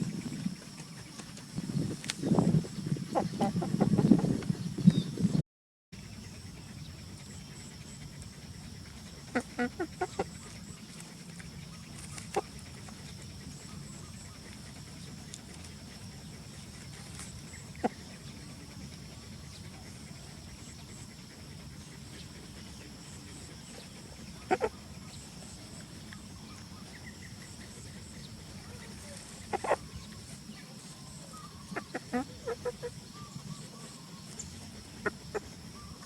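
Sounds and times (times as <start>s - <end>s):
animal calls: 3.1s - 4.4s, 6.5s - 36.0s.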